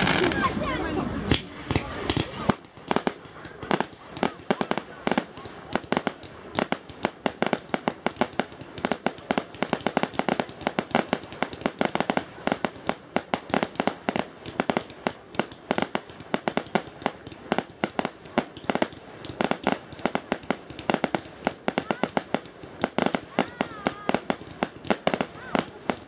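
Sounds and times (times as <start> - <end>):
fireworks bursting with sharp bangs: 0.0 - 26.0.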